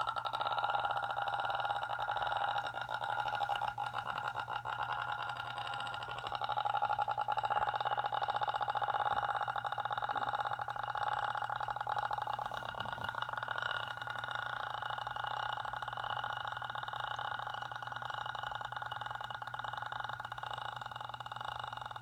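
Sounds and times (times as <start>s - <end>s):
person making raspy buzzing noise: 0.0s - 17.7s.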